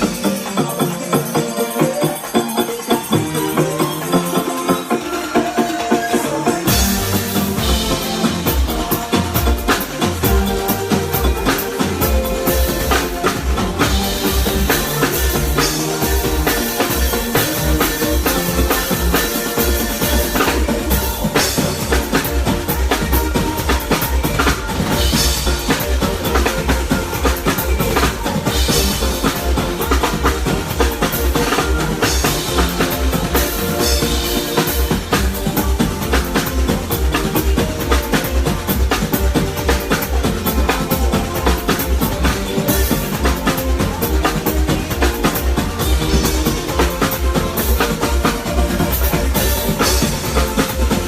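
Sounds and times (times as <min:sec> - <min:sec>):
live band instrumental groove: 0:00.0 - 0:51.0
bass drum beat: 0:06.6 - 0:51.0.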